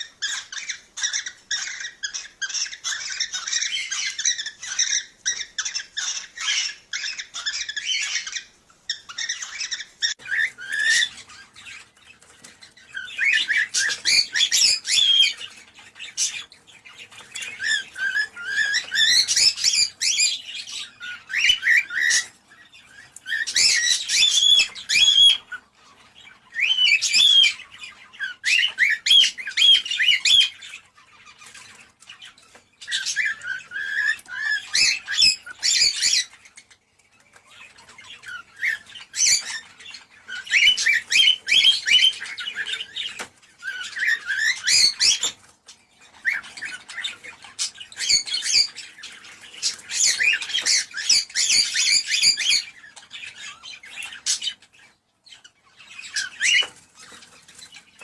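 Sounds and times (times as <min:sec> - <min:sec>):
cockatiels singing and chattering: 0:00.0 - 0:58.0.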